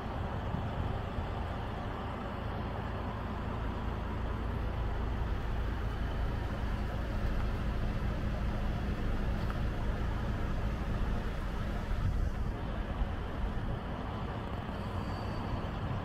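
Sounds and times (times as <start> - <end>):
large vehicle engine rumbling: 0.0 - 16.0.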